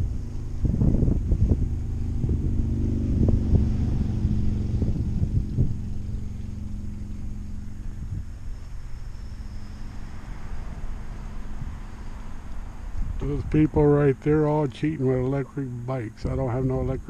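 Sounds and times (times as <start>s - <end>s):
faint steady hum: 0.0s - 17.0s
wind buffeting microphone: 0.0s - 17.0s.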